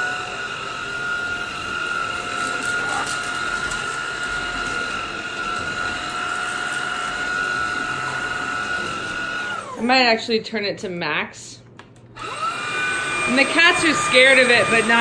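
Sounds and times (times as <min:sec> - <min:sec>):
vacuum cleaner running: 0:00.0 - 0:10.3, 0:12.2 - 0:15.0.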